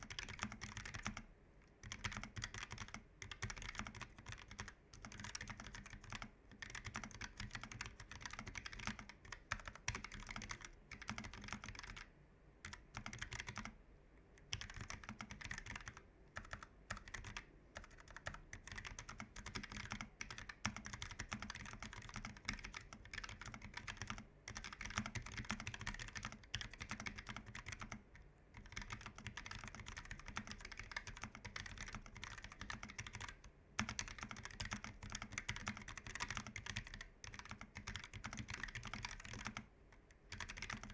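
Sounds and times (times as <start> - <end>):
keyboard typing clicks: 0.0 - 13.8, 14.4 - 28.0, 28.6 - 40.9.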